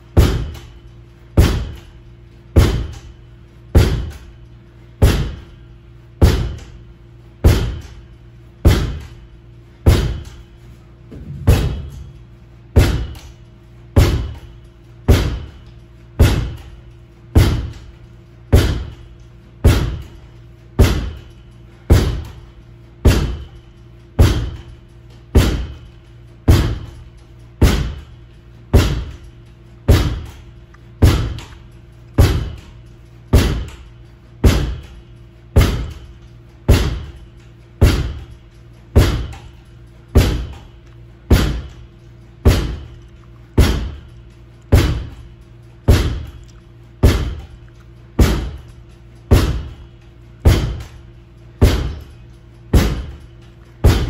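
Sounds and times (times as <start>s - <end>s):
steady low tones: 0.0s - 54.0s.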